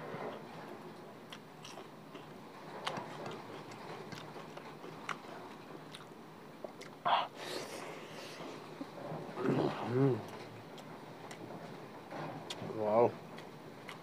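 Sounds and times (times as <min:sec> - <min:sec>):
man chewing food: 0:00.2 - 0:14.0.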